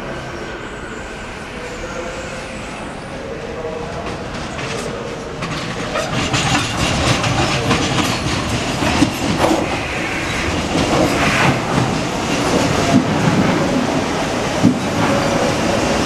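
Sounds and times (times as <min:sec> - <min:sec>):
train arriving: 0:00.0 - 0:16.0.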